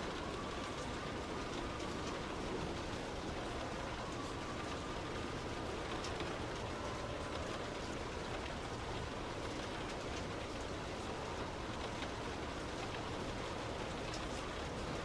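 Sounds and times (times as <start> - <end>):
heavy rain on a car: 0.0 - 15.0
wet road noise: 0.0 - 15.0.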